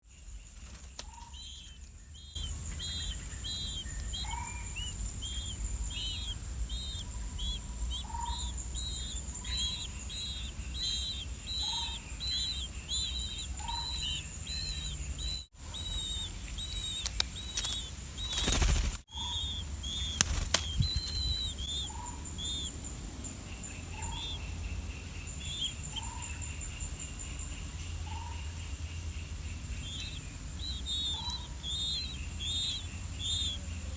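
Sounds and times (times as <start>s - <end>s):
chicks high begging calls: 0.2s - 33.9s
lower bird call: 0.9s - 33.9s.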